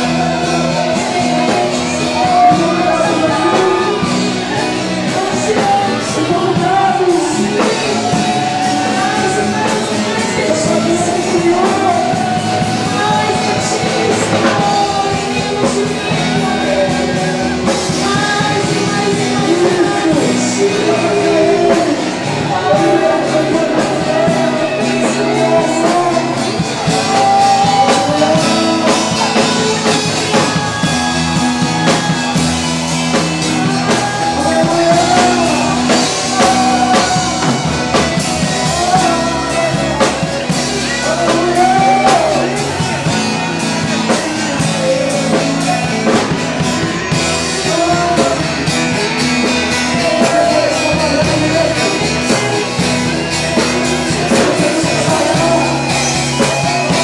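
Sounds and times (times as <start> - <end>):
live band with singing: 0.0 - 57.0.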